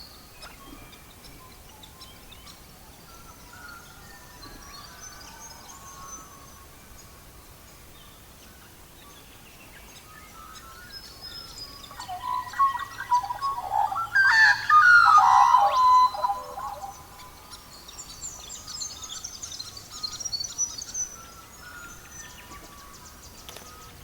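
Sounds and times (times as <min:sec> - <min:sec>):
birds singing and chirping: 0:00.0 - 0:24.0
faint steady hiss: 0:00.0 - 0:24.0.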